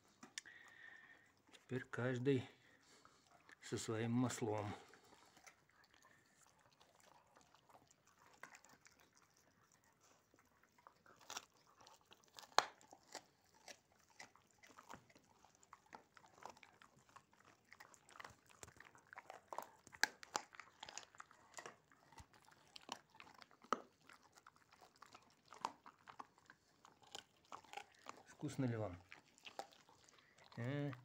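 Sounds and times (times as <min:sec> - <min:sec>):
dogs crunching bones: 0:00.0 - 0:31.0.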